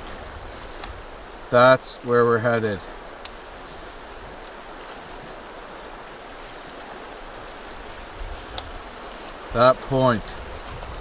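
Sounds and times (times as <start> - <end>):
strong wind: 0.0 - 11.0
waves washing: 0.0 - 11.0.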